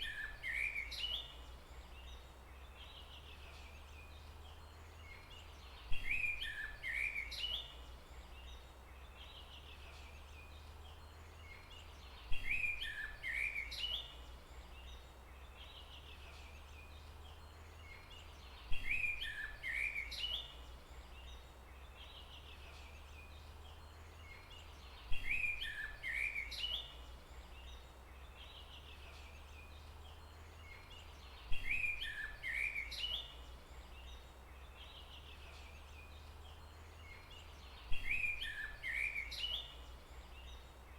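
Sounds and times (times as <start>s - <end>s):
low background noise: 0.0s - 40.9s
songbird chirping: 0.0s - 40.9s.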